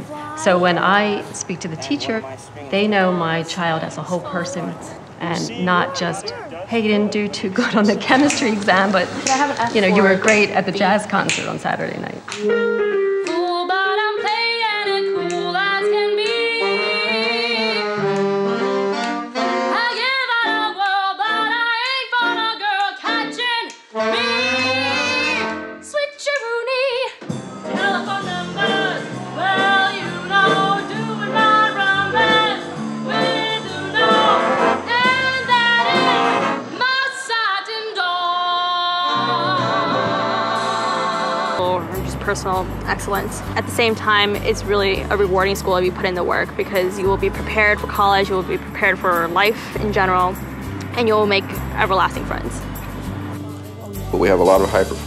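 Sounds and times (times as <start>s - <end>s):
jazz band with saxophones and brass: 0.0s - 25.9s, 27.3s - 37.0s, 38.8s - 55.0s
woman singing jazz with vibrato: 0.0s - 52.7s.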